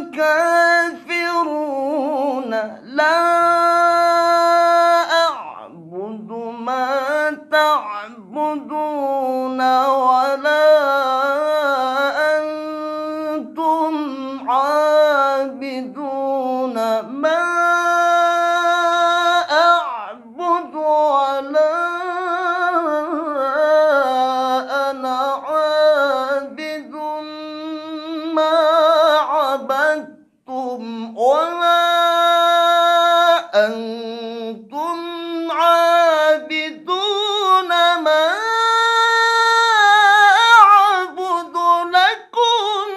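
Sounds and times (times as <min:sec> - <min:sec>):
man chanting melismatic recitation: 0:00.0 - 0:42.9.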